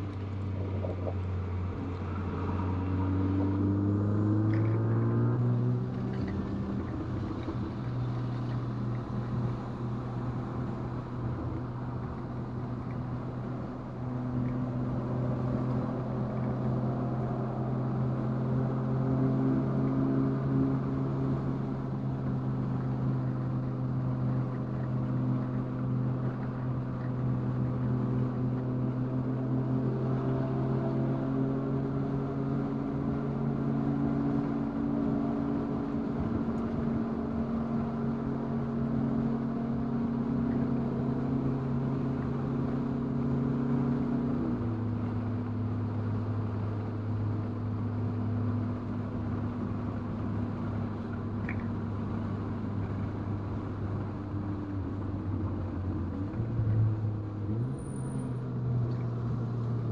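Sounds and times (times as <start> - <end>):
car engine running steadily: 0.0 - 59.9.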